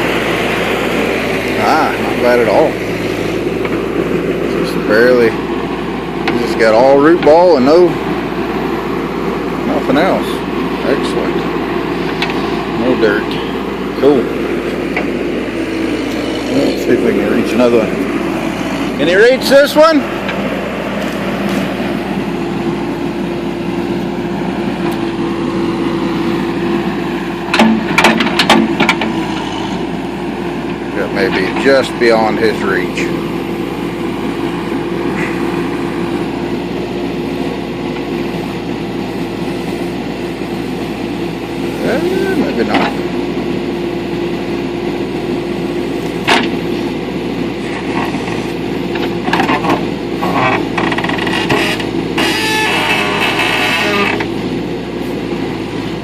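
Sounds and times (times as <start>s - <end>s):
backhoe engine running: 0.0s - 56.0s.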